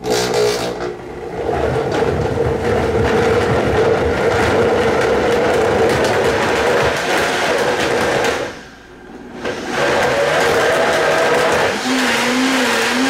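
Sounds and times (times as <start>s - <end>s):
countertop blender running: 0.0s - 13.0s.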